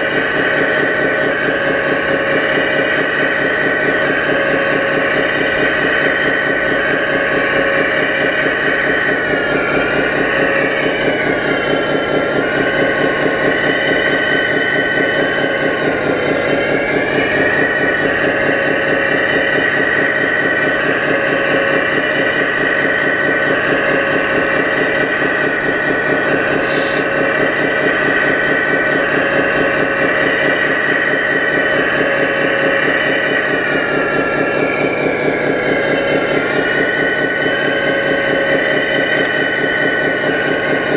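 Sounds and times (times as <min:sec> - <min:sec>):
hydraulic pump whine: 0:00.0 - 0:40.9
pulsing engine-like drone: 0:00.0 - 0:40.9.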